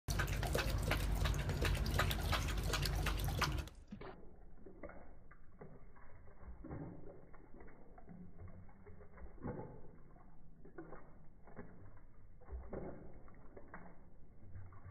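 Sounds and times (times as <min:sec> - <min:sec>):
dog lapping water: 0:00.0 - 0:14.9.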